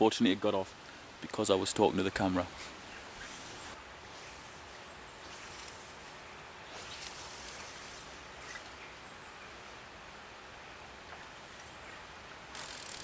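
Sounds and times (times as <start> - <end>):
steady soft hiss: 0.0 - 13.0.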